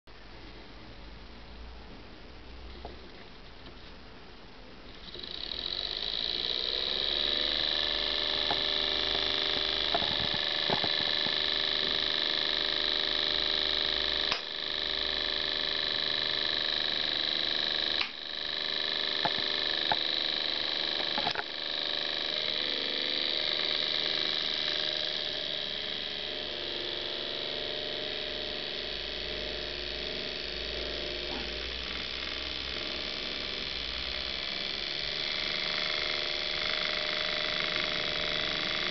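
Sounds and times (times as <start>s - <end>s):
small electric motor whining: 4.9s - 38.9s.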